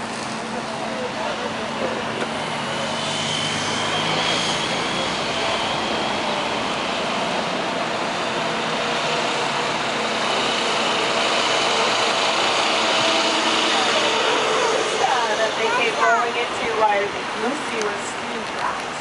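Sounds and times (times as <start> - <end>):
road traffic rush: 0.0 - 19.0.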